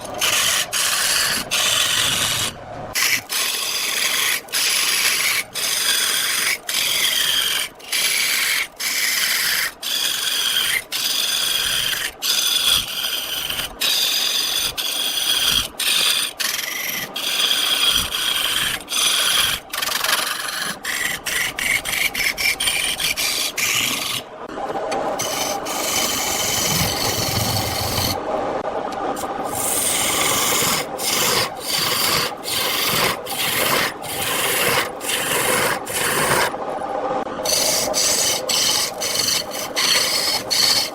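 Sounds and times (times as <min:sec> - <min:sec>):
lathe tool scraping spinning wood: 0:00.0 - 0:24.3, 0:24.9 - 0:28.3, 0:29.2 - 0:40.9.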